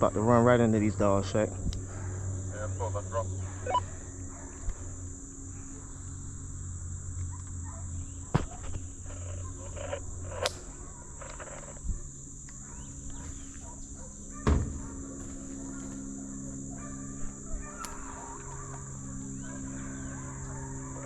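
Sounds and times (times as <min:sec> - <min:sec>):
high insect drone: 0:00.0 - 0:21.0
distant hounds baying: 0:01.8 - 0:21.0.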